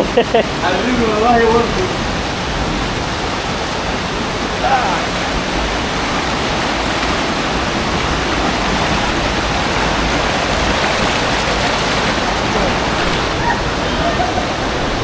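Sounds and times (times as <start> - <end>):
large waterfall rushing: 0.0 - 15.0.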